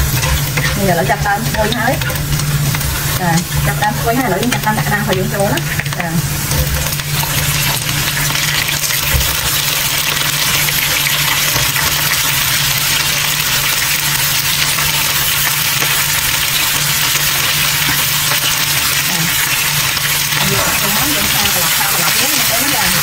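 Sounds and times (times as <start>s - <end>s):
food frying hiss: 0.0s - 23.0s.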